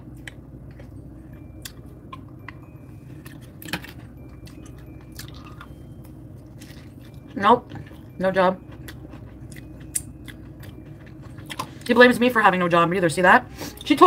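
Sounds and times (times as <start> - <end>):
steady low hum: 0.0 - 14.0
person chewing: 0.1 - 11.9.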